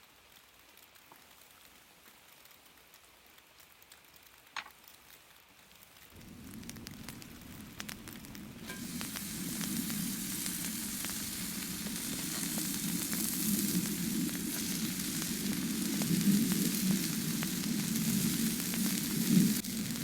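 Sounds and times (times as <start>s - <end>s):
food sizzling on hot surface: 0.0s - 20.0s.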